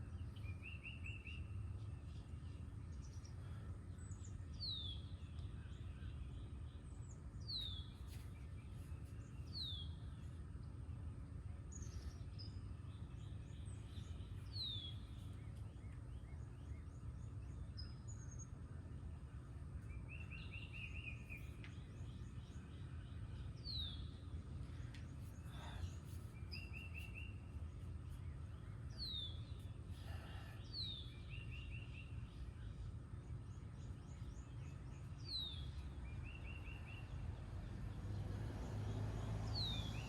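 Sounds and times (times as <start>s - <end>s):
low background rumble: 0.0s - 40.0s.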